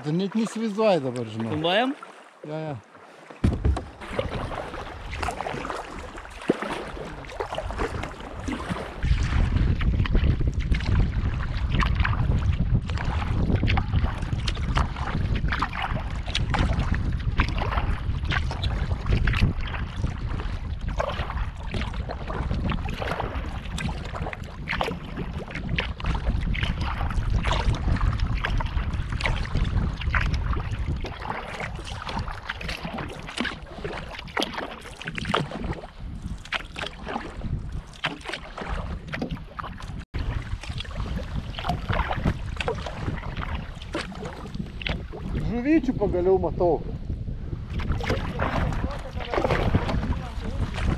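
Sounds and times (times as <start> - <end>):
paddle splashes: 0.0 - 50.9
water splashing around kayak: 0.0 - 50.9
wind rumble on microphone: 3.4 - 50.9.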